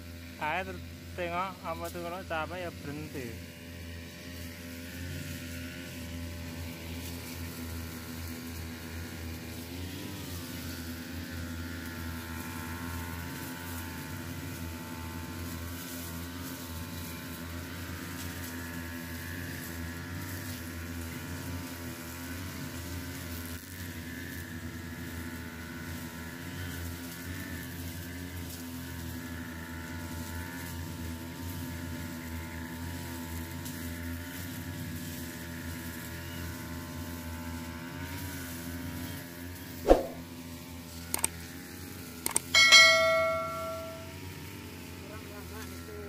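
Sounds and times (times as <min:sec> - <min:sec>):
brush cutter engines droning: 0:00.0 - 0:46.0.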